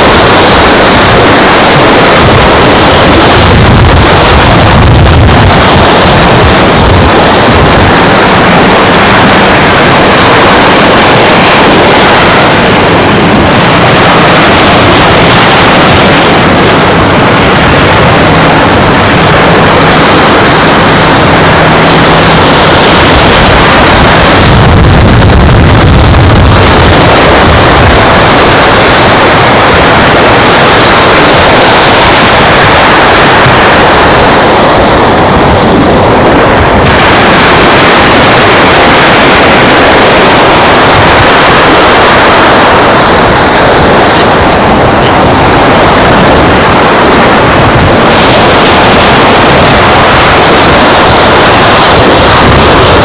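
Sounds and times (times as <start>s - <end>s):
surf washing: 0.0s - 53.0s
wind buffeting microphone: 0.0s - 53.0s.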